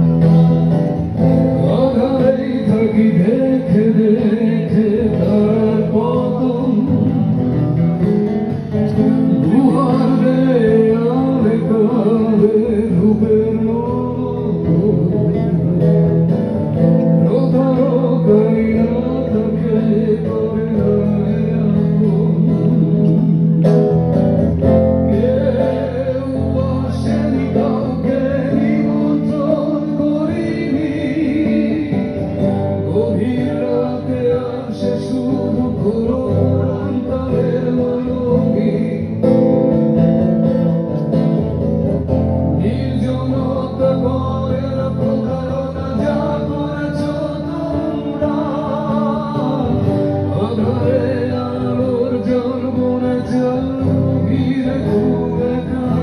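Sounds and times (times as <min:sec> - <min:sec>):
acoustic guitar: 0:00.0 - 0:56.0
man singing into a microphone: 0:00.0 - 0:56.0.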